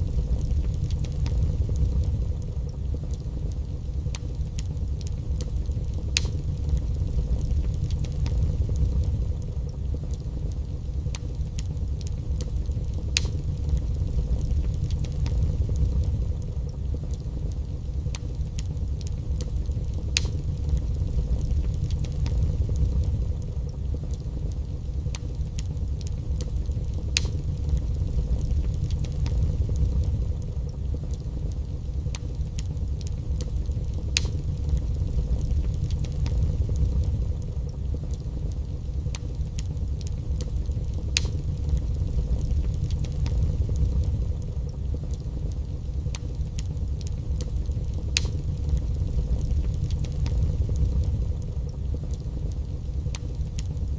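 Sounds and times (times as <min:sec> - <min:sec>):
wood fire burning: 0:00.0 - 0:53.9.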